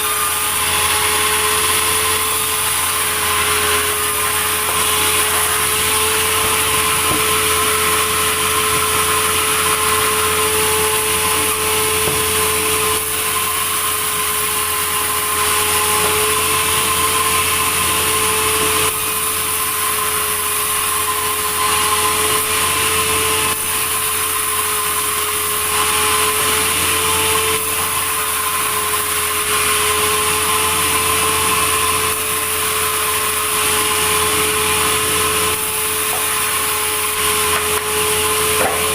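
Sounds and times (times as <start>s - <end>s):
sawmill machinery whining: 0.0s - 38.9s.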